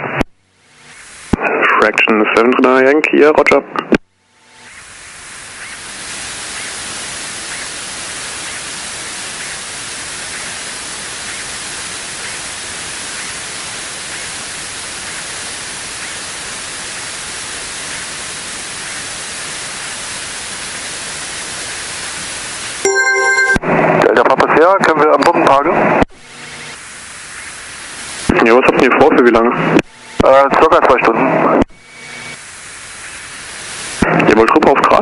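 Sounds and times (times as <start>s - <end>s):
aircraft cabin engine hiss: 4.6s - 22.9s, 23.7s - 35.0s.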